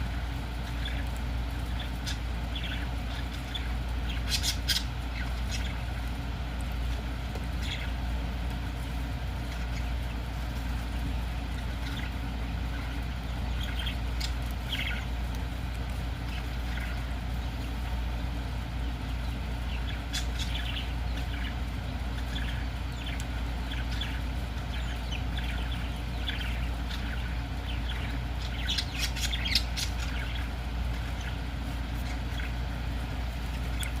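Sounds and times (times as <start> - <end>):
steady low hum: 0.0 - 34.0
parrot chirps and clicks: 0.1 - 34.0.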